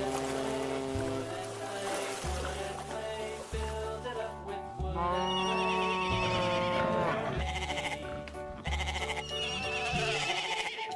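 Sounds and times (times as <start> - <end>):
background music: 0.0 - 10.9.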